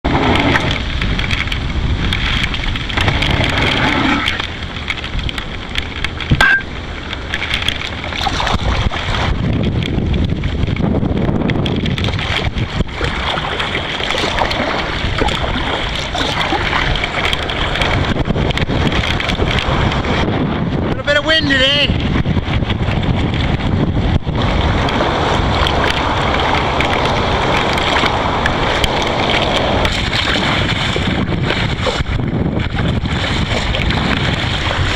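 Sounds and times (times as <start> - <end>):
water splashing around kayak: 0.0 - 34.9
wind buffeting microphone: 0.0 - 34.9.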